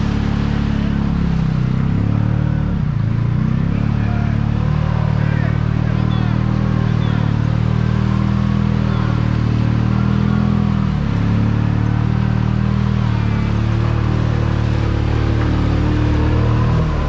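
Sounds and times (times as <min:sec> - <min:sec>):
vehicle engine running under load: 0:00.0 - 0:17.0
water and mud sloshing: 0:00.0 - 0:17.0.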